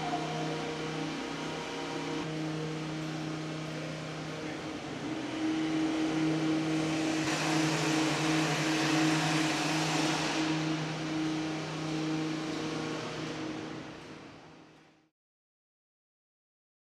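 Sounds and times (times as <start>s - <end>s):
broad rushing noise: 0.0s - 14.7s
low mechanical hum: 0.0s - 15.1s.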